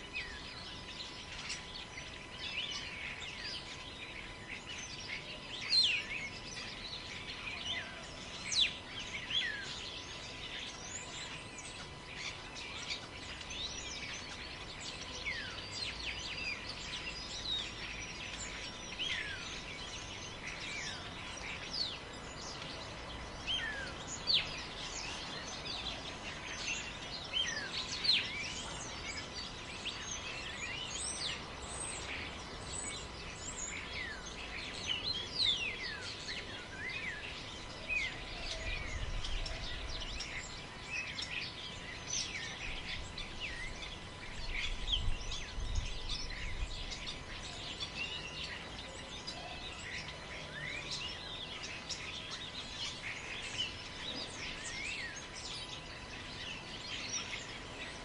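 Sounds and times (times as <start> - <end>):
birds chirping: 0.0 - 58.0
wind in forest: 0.0 - 58.0.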